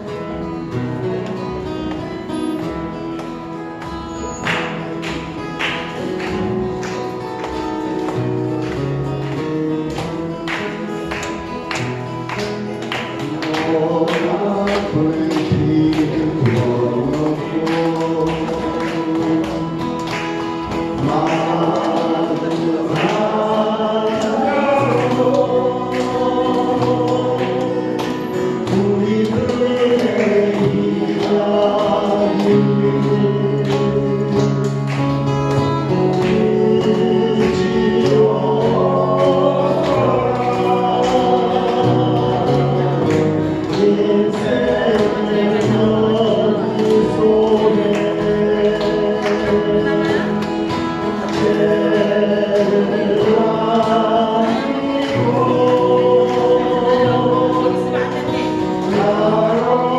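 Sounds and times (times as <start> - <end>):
instrumental accompaniment with beat: 0.0 - 59.9
people singing together: 0.0 - 59.9.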